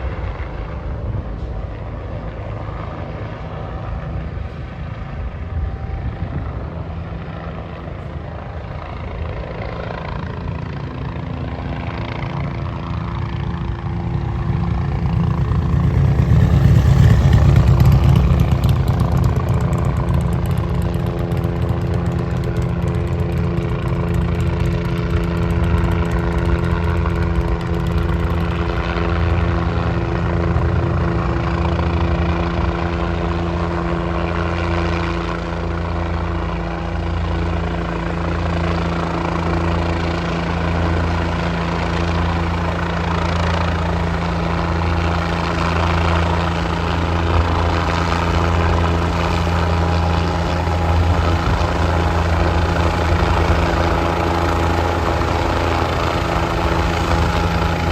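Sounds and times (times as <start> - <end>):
helicopter rotor and engine: 0.0 - 57.9
high turbine whine: 0.0 - 57.9.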